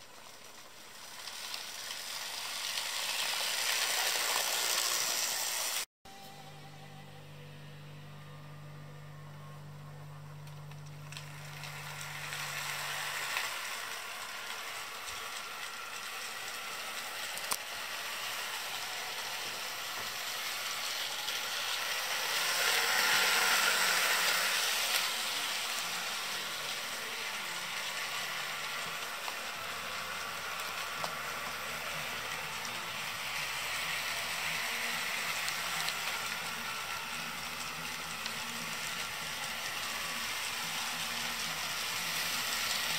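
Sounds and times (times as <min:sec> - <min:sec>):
model train motor whirring: 0:00.0 - 0:07.0, 0:08.7 - 0:42.9.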